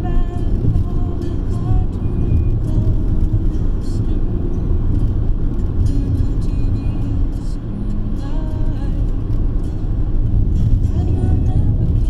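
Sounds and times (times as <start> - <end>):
car rumbling in motion: 0.0 - 12.0.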